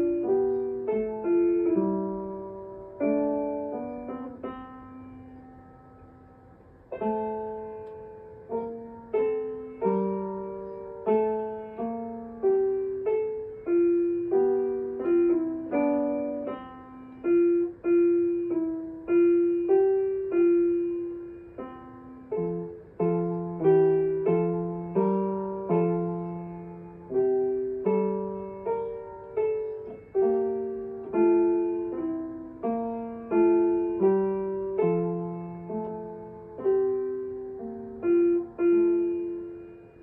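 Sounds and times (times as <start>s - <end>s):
piano playing: 0.0s - 40.0s.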